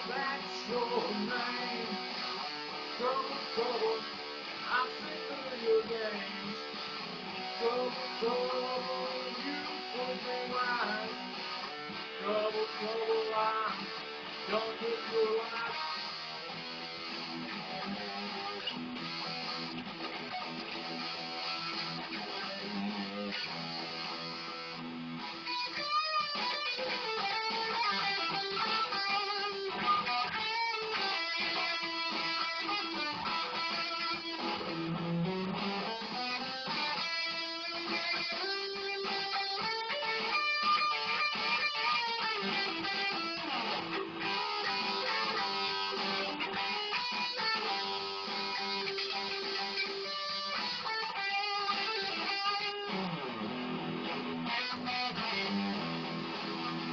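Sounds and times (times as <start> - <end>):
electric guitar playing blues rock: 0.0 - 56.9.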